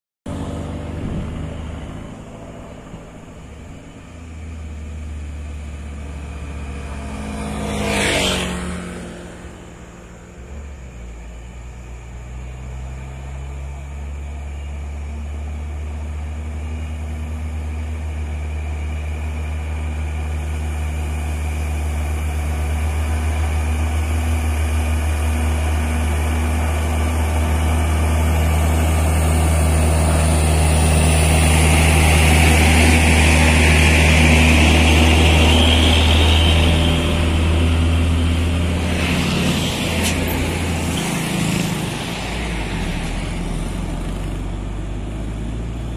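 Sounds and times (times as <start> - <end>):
truck diesel engine pulling uphill: 0.3 - 45.9.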